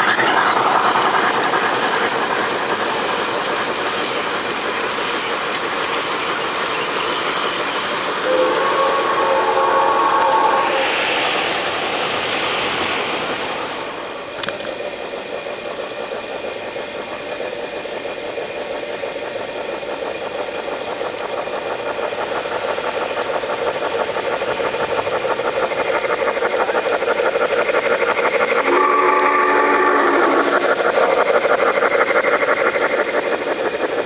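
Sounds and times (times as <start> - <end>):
model steam locomotive chuffing: 0.0 - 34.0
wheels running on rails: 0.0 - 34.0.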